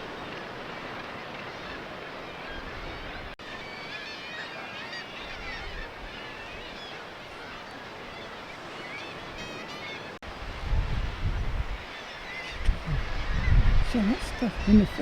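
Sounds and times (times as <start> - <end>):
seabird colony calling: 0.0 - 10.2, 11.6 - 15.0.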